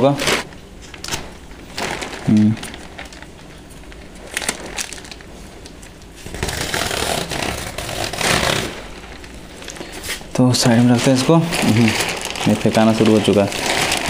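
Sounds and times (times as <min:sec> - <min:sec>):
plastic sack seam rasping and rustling: 0:00.0 - 0:14.0.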